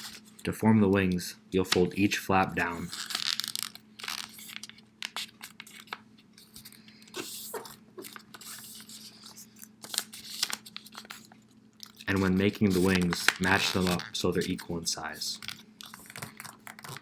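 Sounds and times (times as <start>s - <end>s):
paper rustling and crinkling: 0.0s - 0.5s, 2.6s - 17.0s
faint steady hum: 0.0s - 17.0s.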